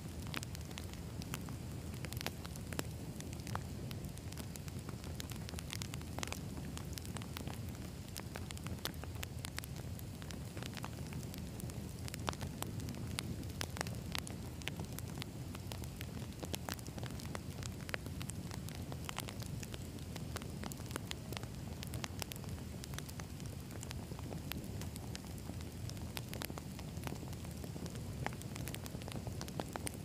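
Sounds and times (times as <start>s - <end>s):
rumble of flames: 0.0s - 30.0s
wood crackling and popping: 0.0s - 30.0s.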